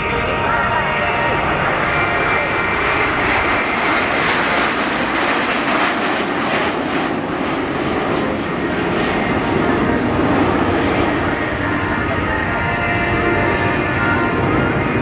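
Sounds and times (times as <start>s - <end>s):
jets roaring overhead: 0.0s - 15.0s.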